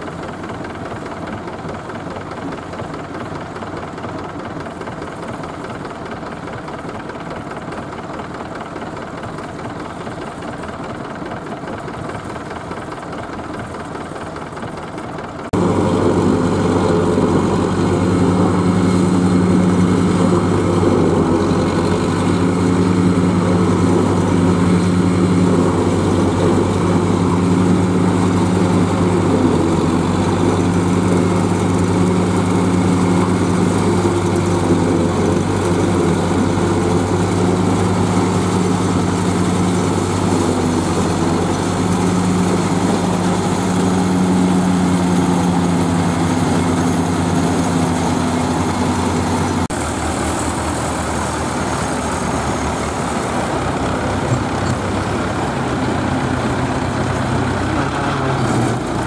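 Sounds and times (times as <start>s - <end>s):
tractor diesel engines: 0.0s - 59.0s.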